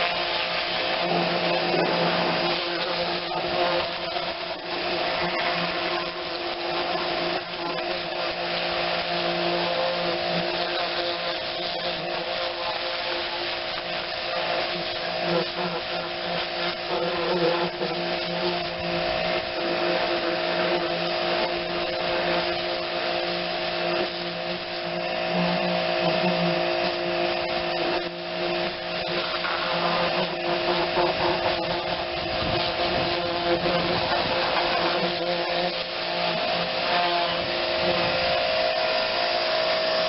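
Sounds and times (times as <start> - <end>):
pressure washer motor hum: 0.0 - 40.0
water spray hissing: 0.0 - 40.0.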